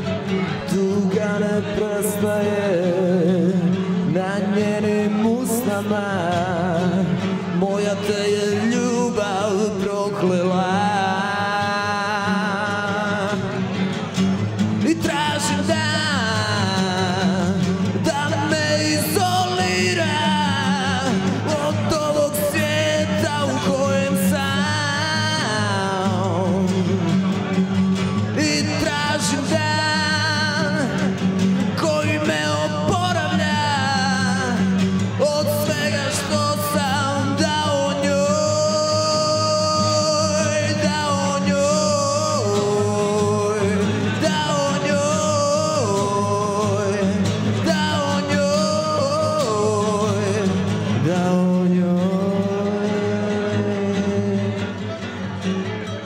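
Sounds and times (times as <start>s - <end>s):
man singing into a microphone: 0.0s - 56.0s
strummed acoustic guitars: 0.0s - 56.0s.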